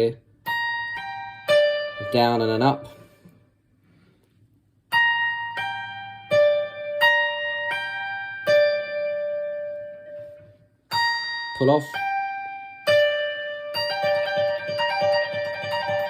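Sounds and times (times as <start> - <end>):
guitar playing single notes: 0.0 - 3.3, 4.9 - 16.0.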